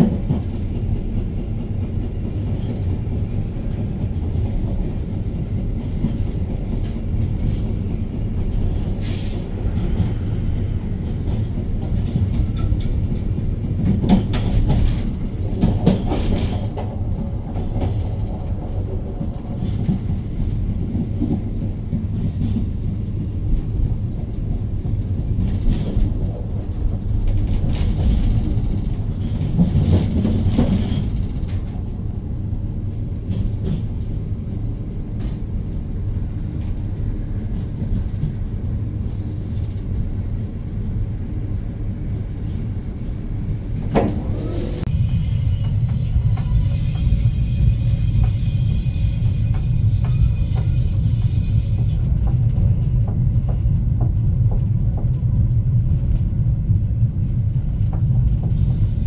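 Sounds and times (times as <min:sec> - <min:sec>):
wheels clacking on track: 0:00.0 - 0:32.2, 0:36.4 - 0:59.0
train rumbling: 0:00.0 - 0:59.0.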